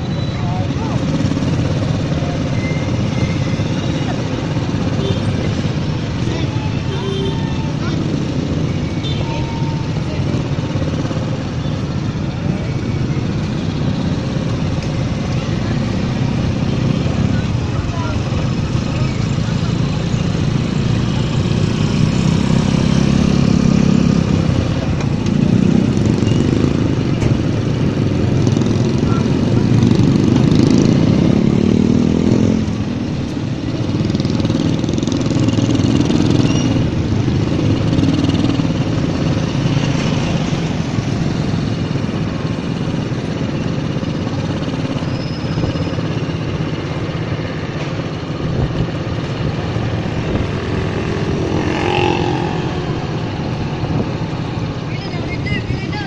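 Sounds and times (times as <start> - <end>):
motorcycle engine accelerating: 0.6 - 6.4, 9.9 - 54.9.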